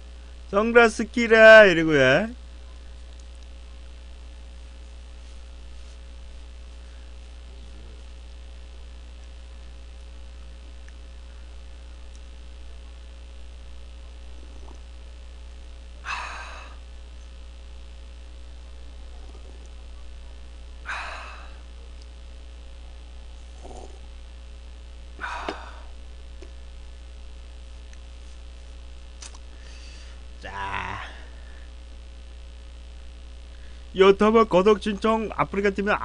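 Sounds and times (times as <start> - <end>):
electrical mains hum: 0.0 - 36.0
faint steady tone: 0.0 - 36.0.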